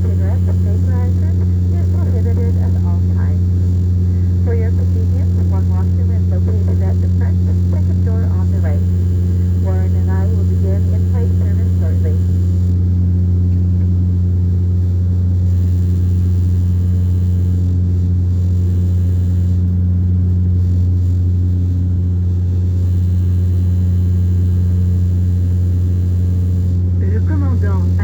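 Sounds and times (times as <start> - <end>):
airplane engine drone: 0.0 - 28.0.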